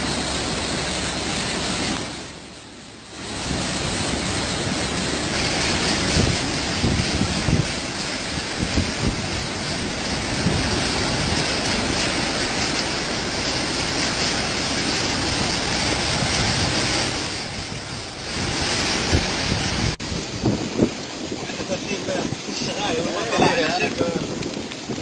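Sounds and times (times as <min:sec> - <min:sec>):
heavy rain hiss: 0:00.0 - 0:25.0
rushing floodwater: 0:00.0 - 0:25.0
wind buffeting microphone: 0:00.0 - 0:25.0.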